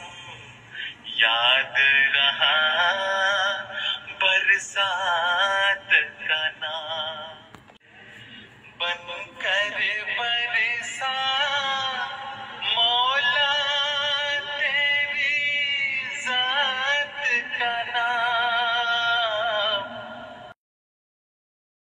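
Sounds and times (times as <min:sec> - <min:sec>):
person singing devotional song: 0:00.0 - 0:20.6.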